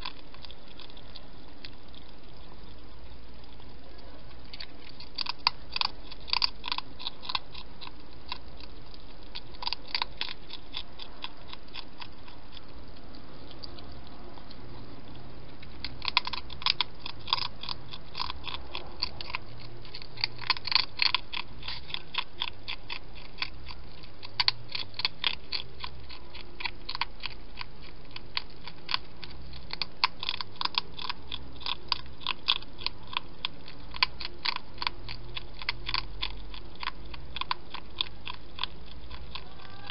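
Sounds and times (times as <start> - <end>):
hedgehog crunchy chewing: 0.0 - 39.9.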